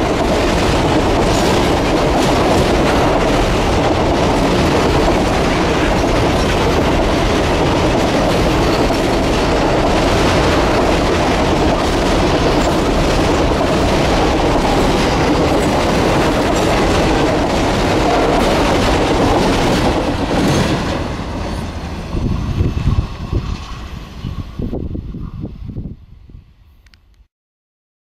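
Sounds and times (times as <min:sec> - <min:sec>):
train wagons rumbling on rails: 0:00.0 - 0:26.5.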